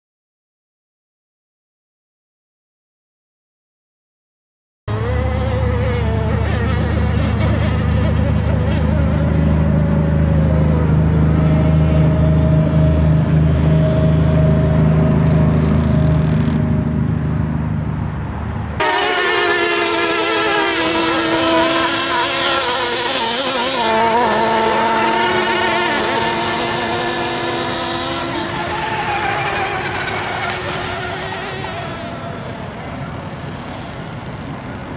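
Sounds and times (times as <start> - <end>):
buzzing engine whine: 4.9 - 34.9
model boat engine drone: 4.9 - 34.9.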